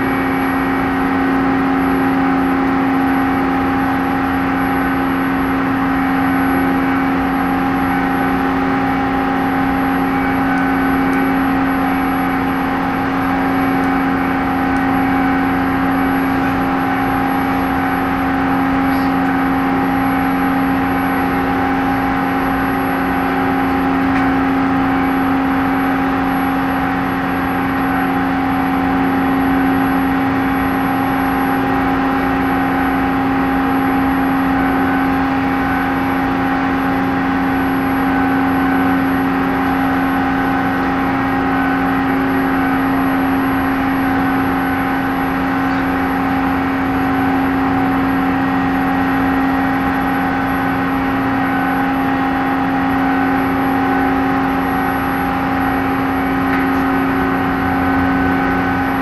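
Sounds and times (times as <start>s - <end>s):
faint machinery whine: 0.0s - 59.0s
ship engines droning: 0.0s - 59.0s.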